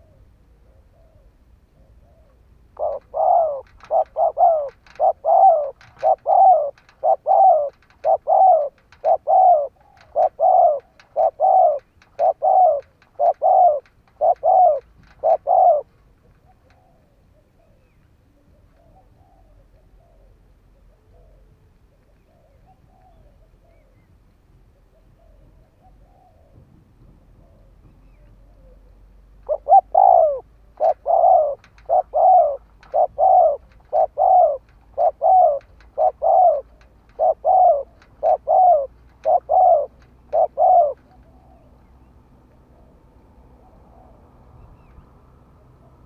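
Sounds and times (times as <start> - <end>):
dove cooing: 0.0 - 24.1, 24.8 - 26.6, 27.2 - 46.0.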